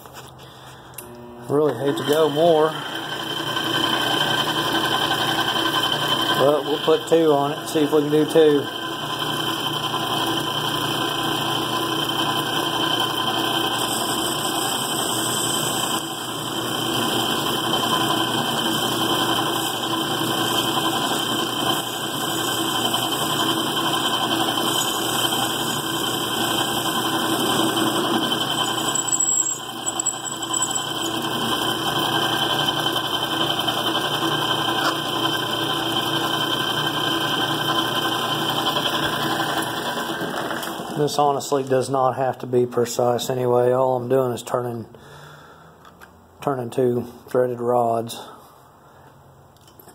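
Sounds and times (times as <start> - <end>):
metal lathe running: 1.0 - 41.0.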